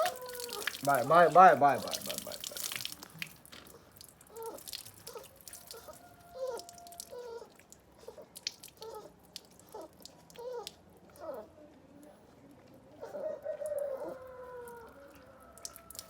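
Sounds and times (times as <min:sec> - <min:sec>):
light clicks and drips: 0:00.0 - 0:16.0.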